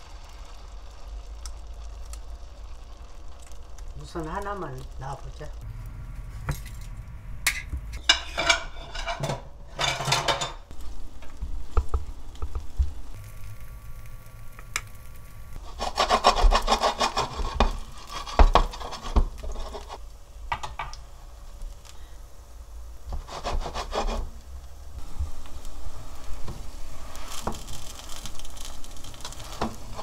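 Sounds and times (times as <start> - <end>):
batter frying in hot oil: 0.0 - 30.0.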